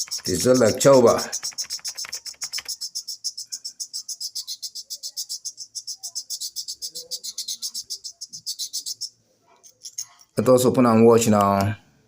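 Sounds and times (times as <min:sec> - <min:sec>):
cricket chirring: 0:00.0 - 0:10.2.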